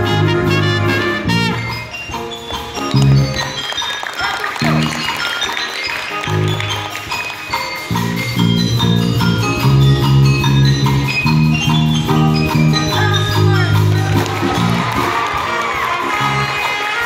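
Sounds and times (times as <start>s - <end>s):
wind band playing lively piece: 0.0s - 17.0s.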